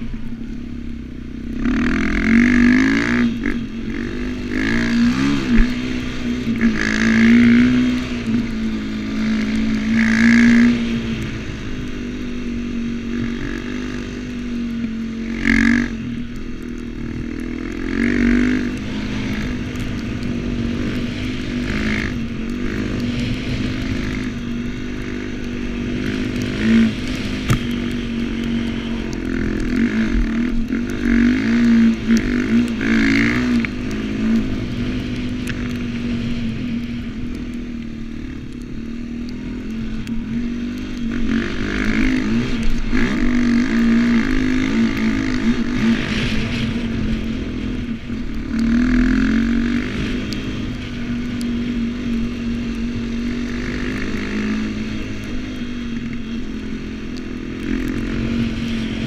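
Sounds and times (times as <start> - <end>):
dirt bike engine revving: 1.4 - 59.0.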